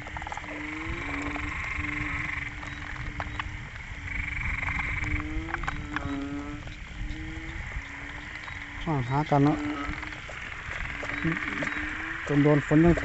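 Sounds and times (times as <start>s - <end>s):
frogs moaning calls: 0.0s - 13.0s.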